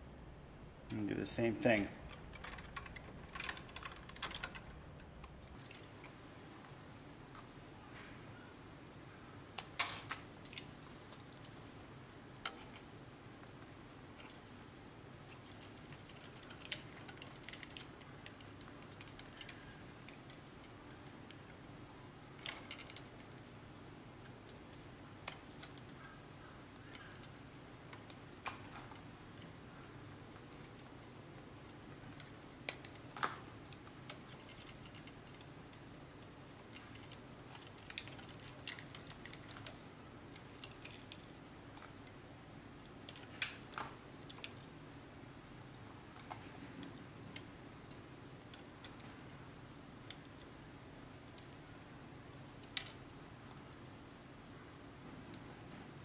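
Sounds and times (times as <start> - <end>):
low steady hum: 0.0 - 56.0
wires and pliers clicking: 1.6 - 7.6, 8.7 - 44.8, 45.6 - 54.2.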